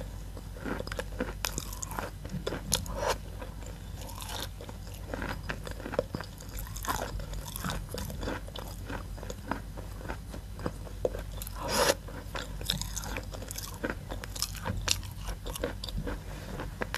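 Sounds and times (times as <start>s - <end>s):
chewing chalk crunches: 0.6s - 16.9s.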